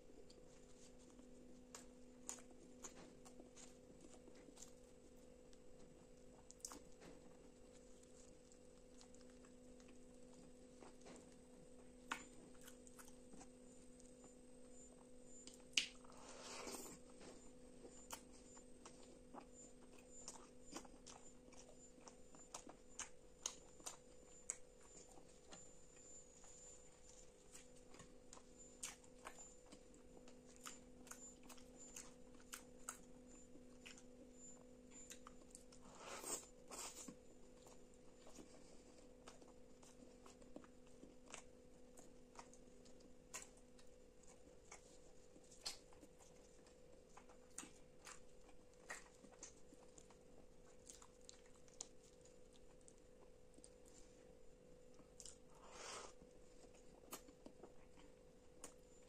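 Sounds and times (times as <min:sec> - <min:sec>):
faint steady hum: 0:00.0 - 0:59.0
wet chewing and mouth clicks: 0:00.2 - 0:54.3, 0:54.9 - 0:58.9.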